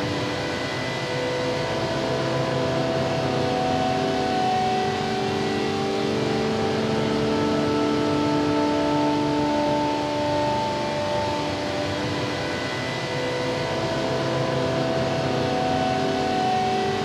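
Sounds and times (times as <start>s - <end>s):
ambient music held tones: 0.0s - 17.0s.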